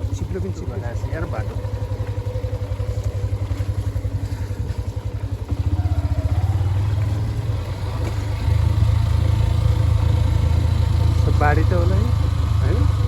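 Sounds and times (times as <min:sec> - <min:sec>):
vehicle engine throbbing under load: 0:00.0 - 0:13.0.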